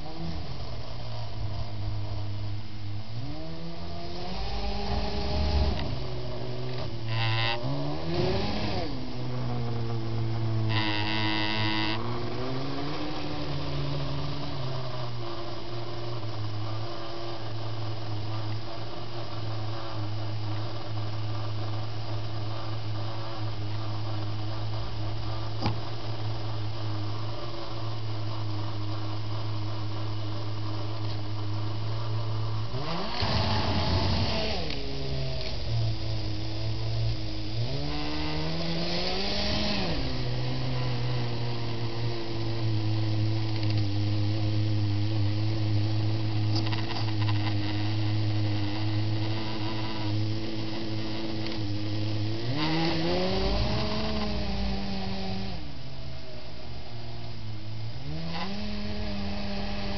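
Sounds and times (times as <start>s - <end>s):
steady low hum: 0.0s - 59.9s
electric motors whining: 3.1s - 16.8s, 17.4s - 55.8s.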